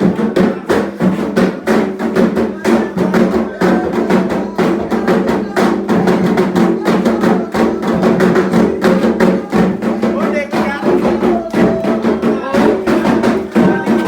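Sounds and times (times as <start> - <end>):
hand drums playing fast rhythm: 0.0 - 14.0.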